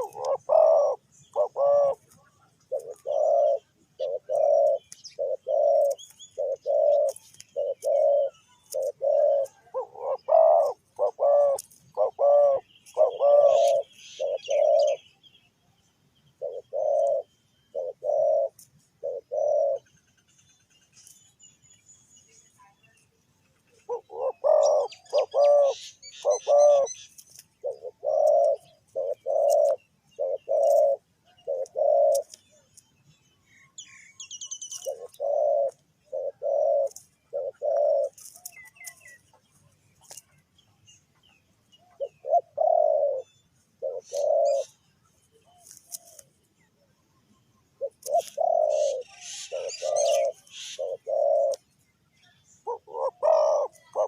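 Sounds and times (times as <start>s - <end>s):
dove cooing: 0.0s - 15.2s, 16.4s - 20.3s, 23.7s - 40.4s, 41.7s - 46.9s, 47.6s - 51.8s, 52.5s - 54.0s
small birds chirping: 0.0s - 54.0s.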